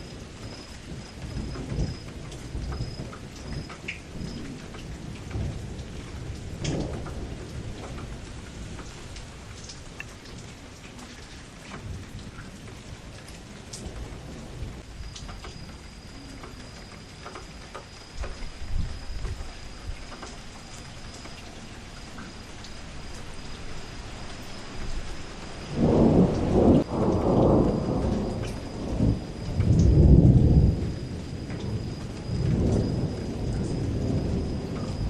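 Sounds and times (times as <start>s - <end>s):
thunder rumbling: 0.0s - 10.5s, 11.8s - 21.4s, 22.4s - 35.0s
steady rain pattering: 0.0s - 35.0s.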